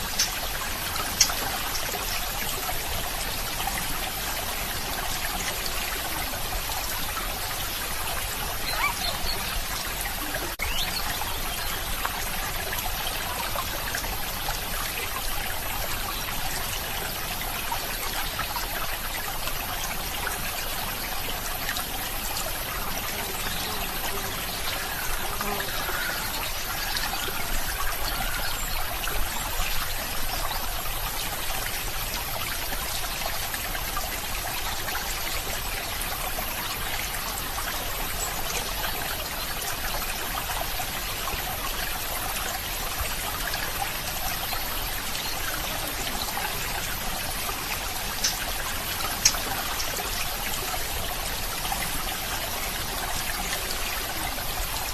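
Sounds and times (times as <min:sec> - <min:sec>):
stream trickling: 0:00.0 - 0:54.9.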